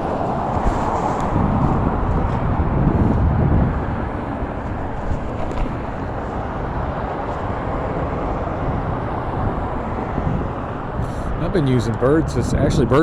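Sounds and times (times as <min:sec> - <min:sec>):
electric scooter rumble and hiss: 0:00.0 - 0:13.0.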